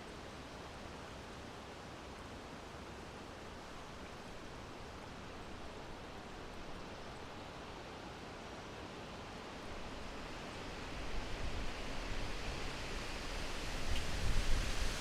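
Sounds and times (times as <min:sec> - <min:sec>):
steady wind: 0:00.5 - 0:15.0.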